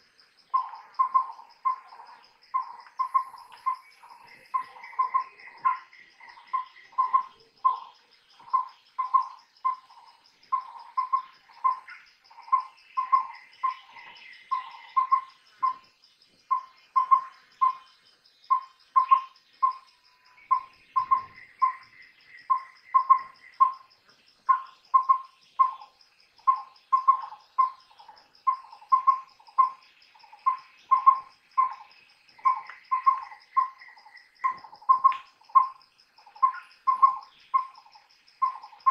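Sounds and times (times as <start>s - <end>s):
high insect trill: 0.0s - 38.9s.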